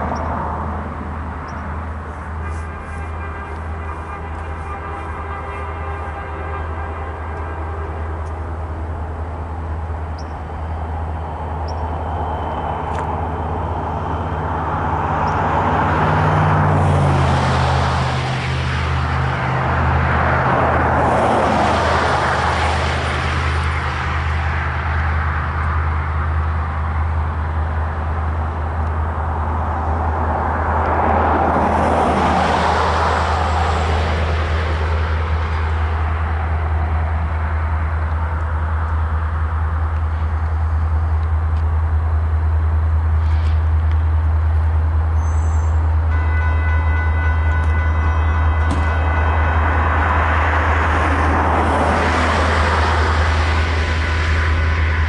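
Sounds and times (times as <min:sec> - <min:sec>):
low engine rumble: 0:00.0 - 0:55.0
road vehicles passing: 0:00.0 - 0:55.0.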